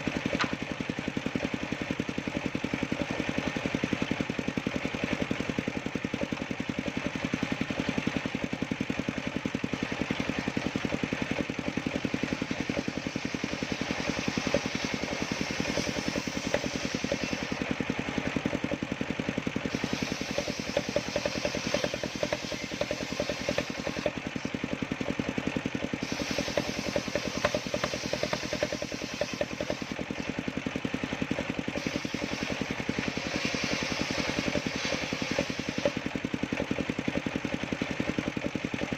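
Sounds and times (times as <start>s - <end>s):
small sawmill engine running: 0.0s - 38.9s.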